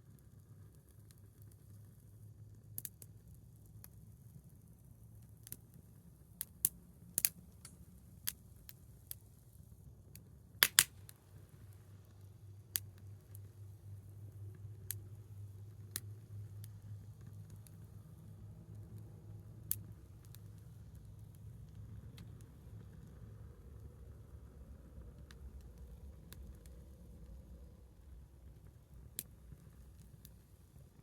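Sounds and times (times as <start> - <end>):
wood fire crackling and popping: 0.6 - 31.0.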